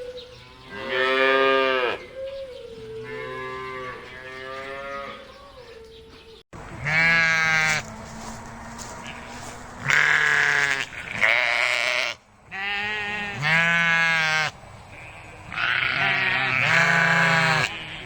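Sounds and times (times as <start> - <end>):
livestock bleating: 0.6 - 2.1, 3.0 - 5.4, 6.8 - 18.0.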